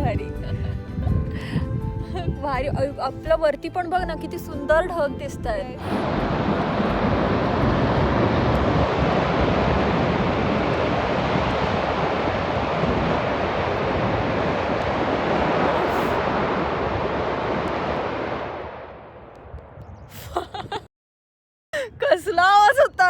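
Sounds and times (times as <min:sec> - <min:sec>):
wind buffeting microphone: 0:00.0 - 0:20.9, 0:21.8 - 0:23.0.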